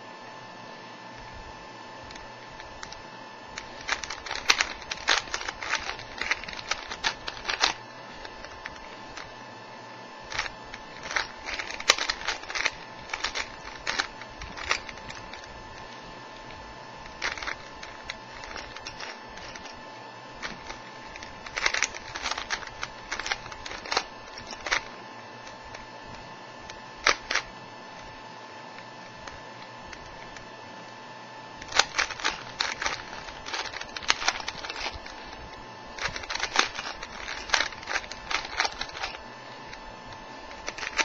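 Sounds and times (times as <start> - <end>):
faint steady hum: 0.0 - 41.0
puzzle cube plastic clicking: 2.1 - 3.0, 3.6 - 9.3, 10.3 - 19.8, 20.4 - 28.1, 28.8 - 30.4, 31.6 - 41.0.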